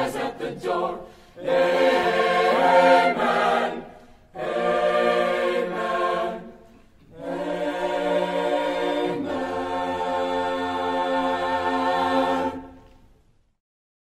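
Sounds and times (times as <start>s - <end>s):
choir singing held chords: 0.0s - 13.1s.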